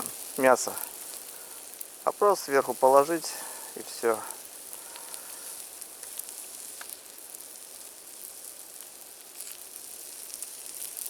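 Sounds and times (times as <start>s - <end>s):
fire crackling and popping: 0.0s - 11.0s
meat sizzling over campfire: 0.0s - 11.0s.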